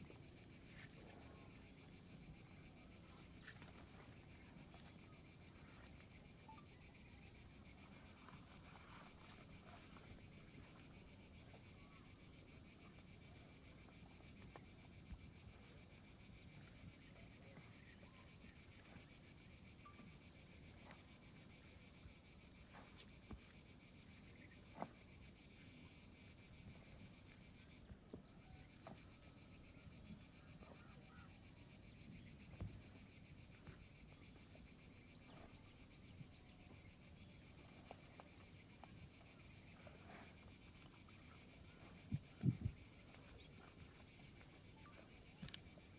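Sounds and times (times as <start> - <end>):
insects chorus: 0.0 - 45.9.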